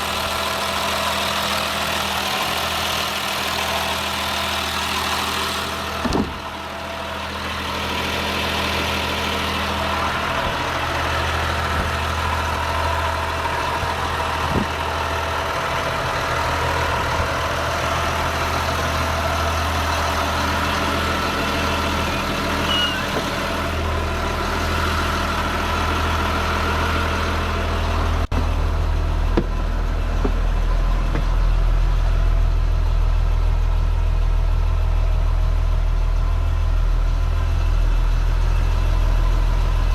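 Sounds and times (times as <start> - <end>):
diesel bus engine idling: 0.0 - 39.9.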